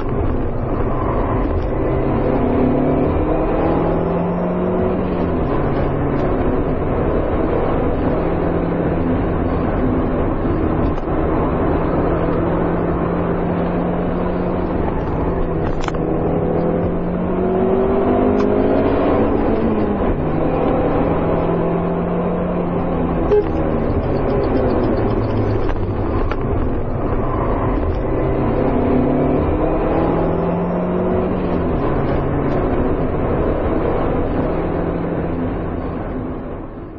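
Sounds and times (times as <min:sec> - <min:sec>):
car engine revving under load: 0:00.0 - 0:36.7.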